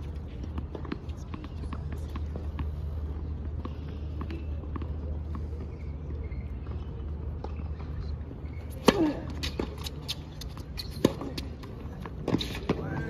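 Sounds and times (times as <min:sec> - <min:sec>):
tennis ball bouncing on court: 0:00.0 - 0:13.0.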